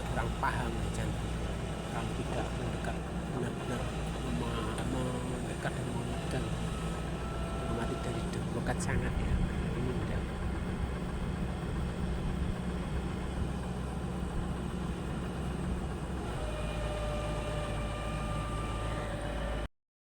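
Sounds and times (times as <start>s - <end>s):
low engine-like hum: 0.0s - 19.7s.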